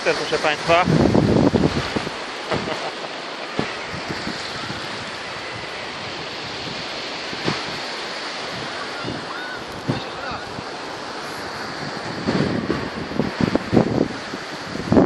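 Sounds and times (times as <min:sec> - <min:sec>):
small waves breaking: 0:00.0 - 0:15.0.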